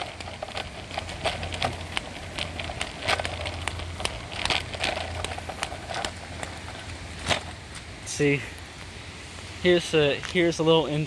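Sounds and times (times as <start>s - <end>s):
footsteps on wet pavement: 0.0s - 11.0s
low steady rumble: 0.0s - 11.0s.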